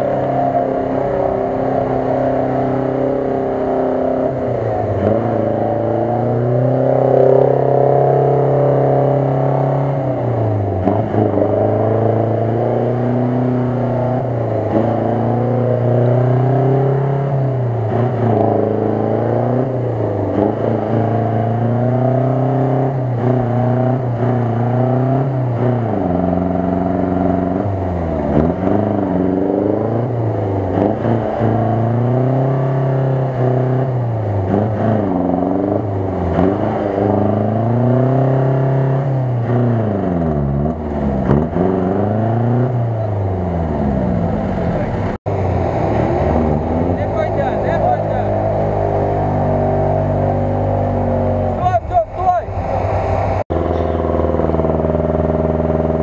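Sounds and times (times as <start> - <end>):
engine revving hard: 0.0 - 56.0.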